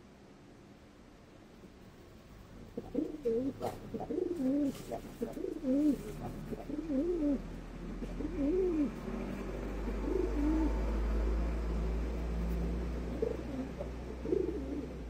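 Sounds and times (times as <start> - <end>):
pigeon cooing: 2.6 - 15.0.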